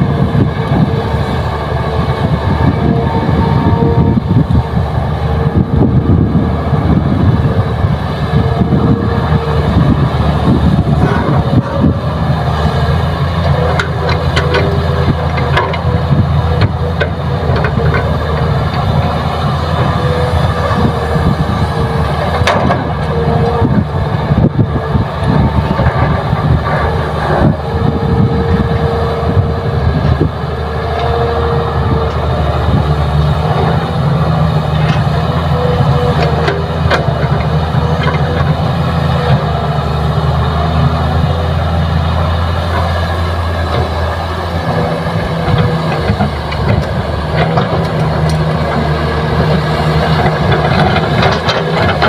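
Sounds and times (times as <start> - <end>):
heavy diesel engines running: 0.0 - 52.0
whine: 0.0 - 52.0.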